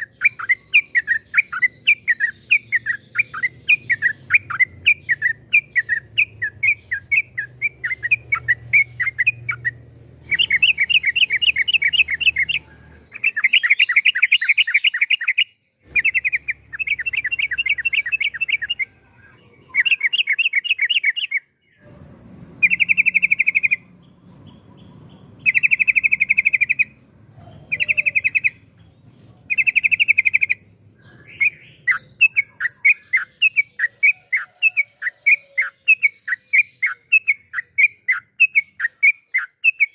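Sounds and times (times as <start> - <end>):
bird singing fast repeated notes: 0.0 - 21.8, 22.6 - 39.9.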